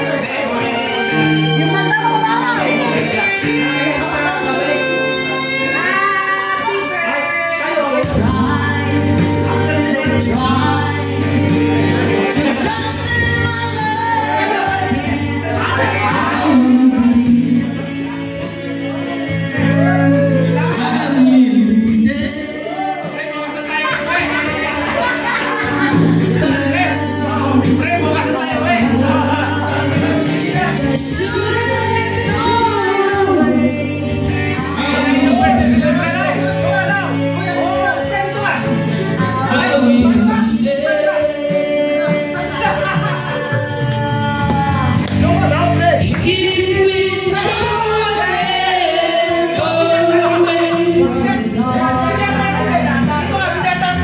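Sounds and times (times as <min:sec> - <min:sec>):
backing track with bass notes: 0:00.0 - 0:54.0
woman singing karaoke: 0:00.0 - 0:54.0.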